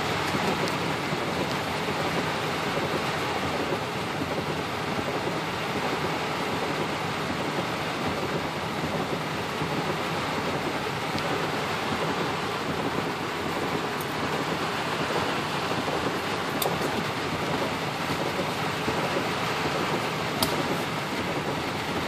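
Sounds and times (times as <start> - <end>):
heavy rain on car roof: 0.0 - 22.0.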